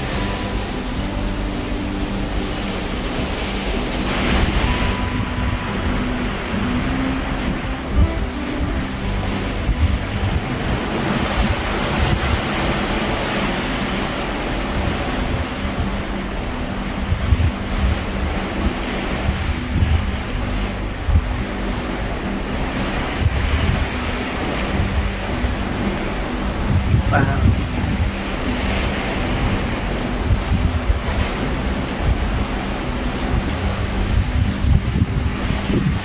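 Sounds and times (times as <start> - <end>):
low steady hum: 0.0 - 36.0
ocean waves rushing: 0.0 - 36.0
wind on microphone: 0.0 - 36.0.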